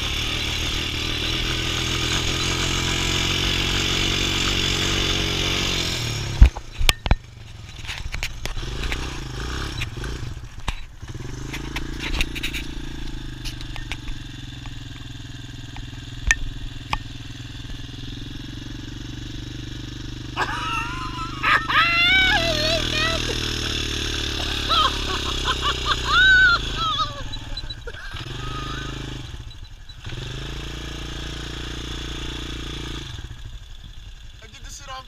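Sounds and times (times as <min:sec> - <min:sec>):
quad engine running: 0:00.0 - 0:35.0.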